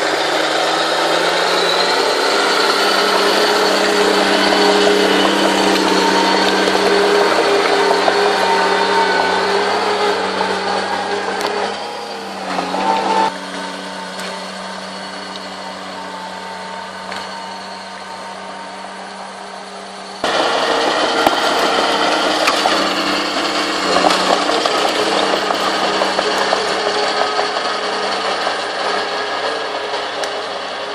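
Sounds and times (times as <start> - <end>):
bulldozer diesel engine running: 0.0 - 30.9
steel tracks rattling: 0.0 - 30.9.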